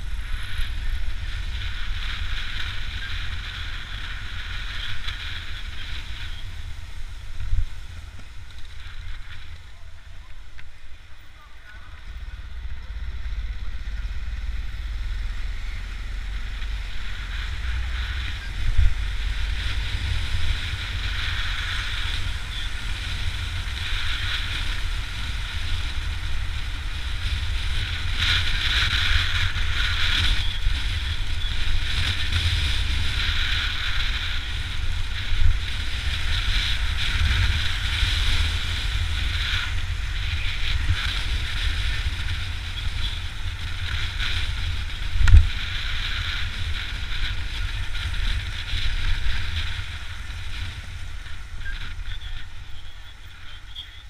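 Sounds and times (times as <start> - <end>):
motorcycle engine rumble: 0.0 - 54.0
wind rushing over microphone: 0.0 - 54.0.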